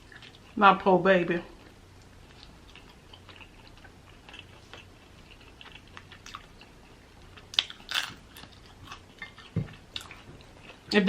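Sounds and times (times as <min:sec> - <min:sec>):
chewing crispy chicken: 0:00.0 - 0:00.6, 0:01.6 - 0:11.0.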